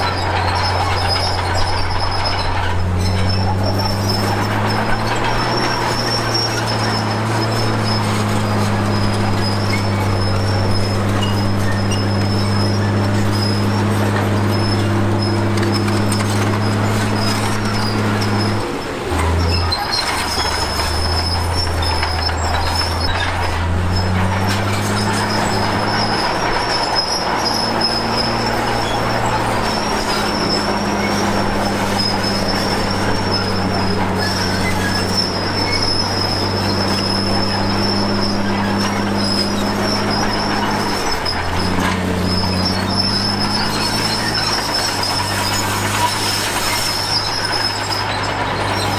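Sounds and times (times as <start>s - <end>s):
bulldozer diesel engine under load: 0.0s - 48.9s
steel tracks squealing: 0.0s - 48.9s.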